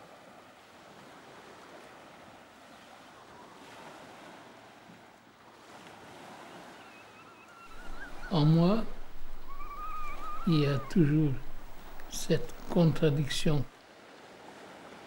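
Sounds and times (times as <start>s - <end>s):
faint sea waves: 0.0s - 15.0s.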